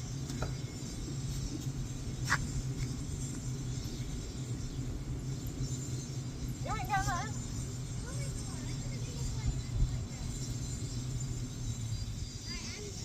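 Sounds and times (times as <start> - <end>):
constant low hum: 0.0 - 13.0
low outdoor rumble: 0.0 - 13.0.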